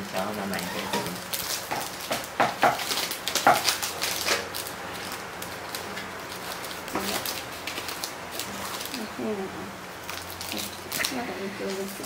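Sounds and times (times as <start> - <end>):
wrapper crinkling and rustling: 0.0 - 9.4, 10.0 - 12.0.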